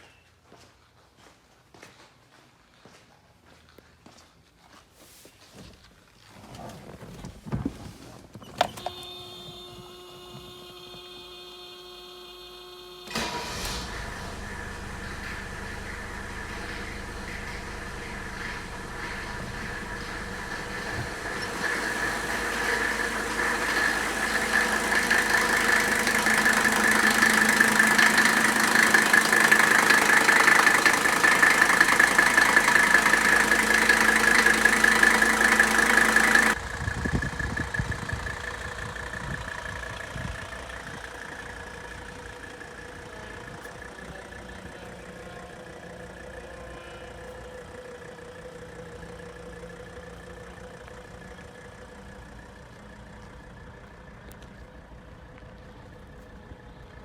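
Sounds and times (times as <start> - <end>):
diesel engine idling: 8.7 - 57.0.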